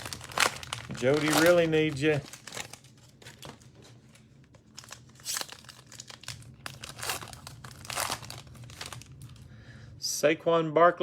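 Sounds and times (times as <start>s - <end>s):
cellophane wrapper tearing and crinkling: 0.0s - 9.5s.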